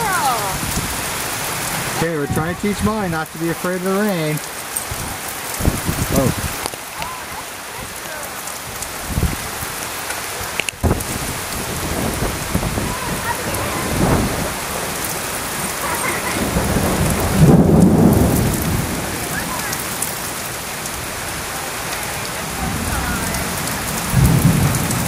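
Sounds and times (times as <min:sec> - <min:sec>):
low thunder rumbles: 0:00.0 - 0:03.6, 0:04.9 - 0:07.1, 0:07.8 - 0:09.8, 0:10.8 - 0:25.0
steady rain falling: 0:00.0 - 0:25.0.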